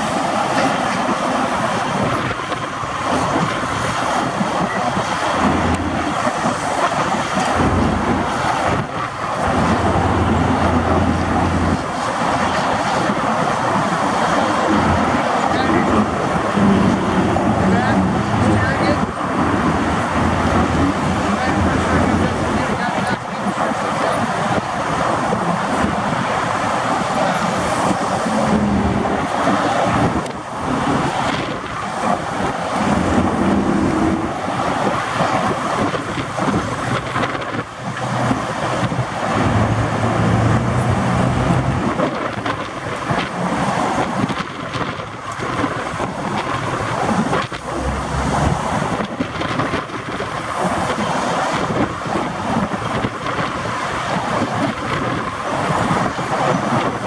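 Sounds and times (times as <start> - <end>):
road traffic: 0.0 - 57.0
wind buffeting microphone: 0.0 - 57.0.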